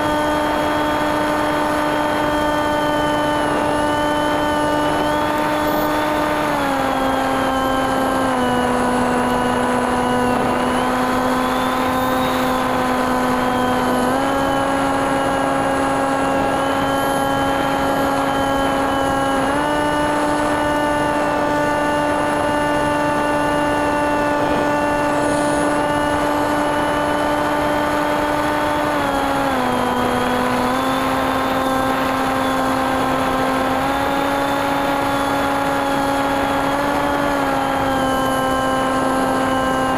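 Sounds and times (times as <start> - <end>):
propeller motor buzzing: 0.0 - 39.9.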